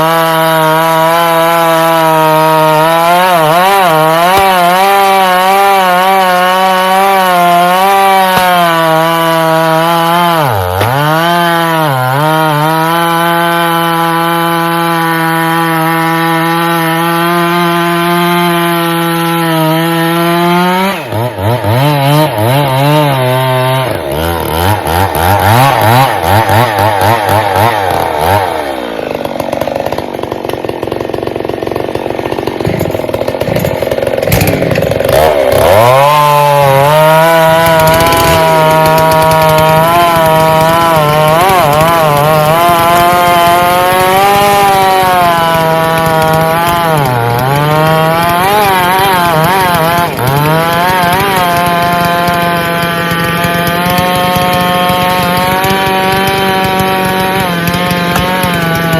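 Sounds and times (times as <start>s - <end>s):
chainsaw cutting wood: 0.0s - 58.9s.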